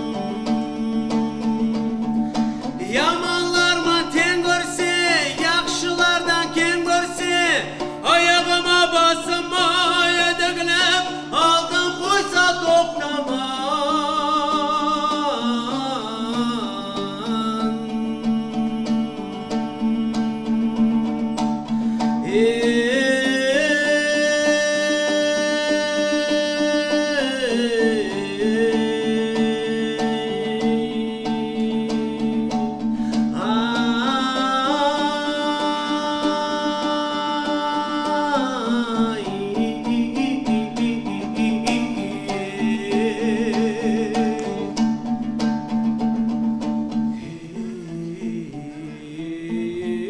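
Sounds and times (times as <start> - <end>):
man singing: 0.0 - 45.2, 47.0 - 50.0
plucked lutes: 0.0 - 50.0.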